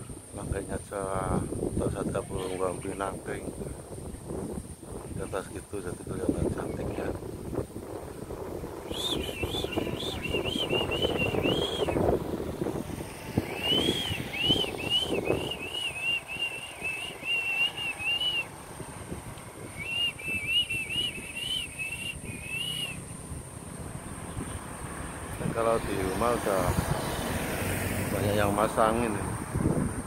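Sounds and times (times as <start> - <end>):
songbird singing: 0.0 - 29.4
wind rumble on microphone: 0.0 - 30.0.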